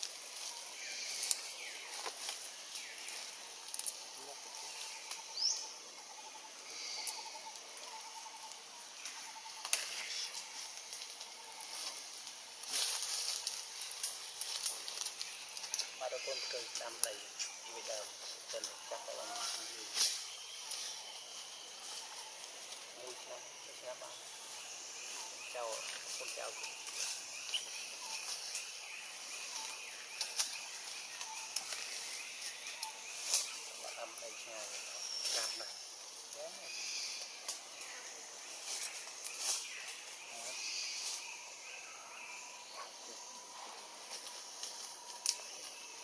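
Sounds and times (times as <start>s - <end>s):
steady high hiss: 0.0s - 46.0s.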